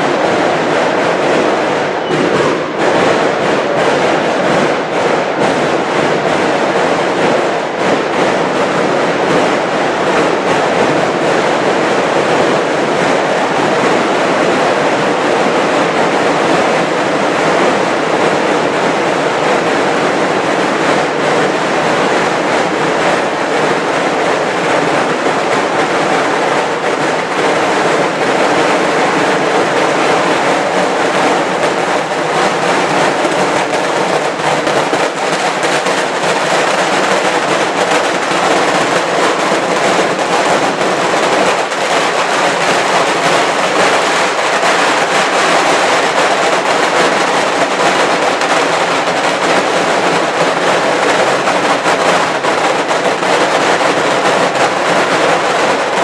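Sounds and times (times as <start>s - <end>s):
firecracker bangs crackling: 0.0s - 56.0s.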